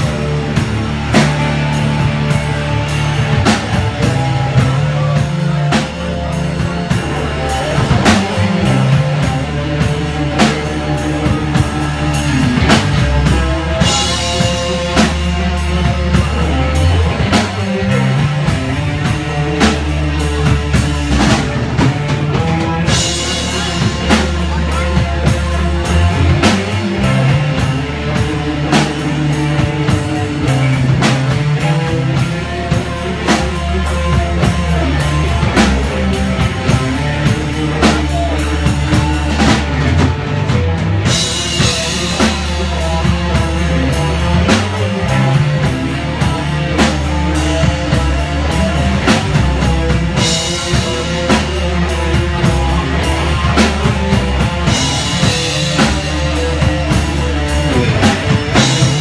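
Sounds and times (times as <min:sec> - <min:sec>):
bass guitar: 0:00.0 - 0:59.0
drum kit steady beat: 0:00.0 - 0:59.0
electric guitar: 0:00.0 - 0:59.0.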